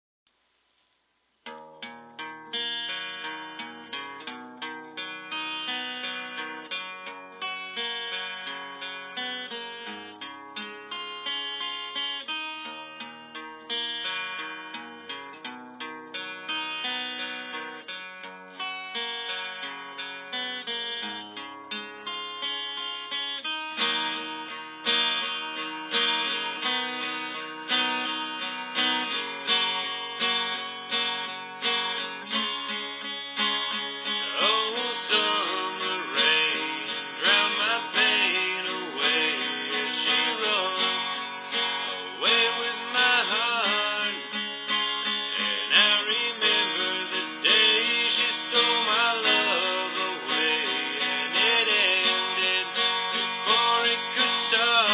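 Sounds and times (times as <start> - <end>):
acoustic guitar chords: 1.4 - 54.9.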